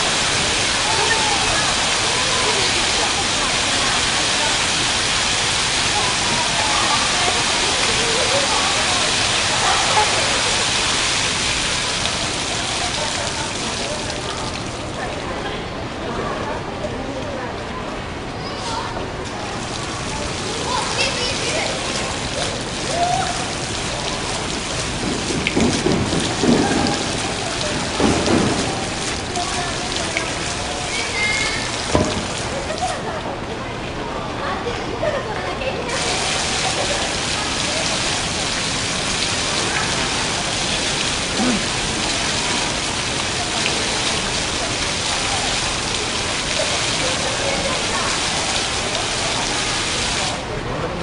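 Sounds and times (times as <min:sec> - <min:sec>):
fountain water falling: 0:00.0 - 0:51.0.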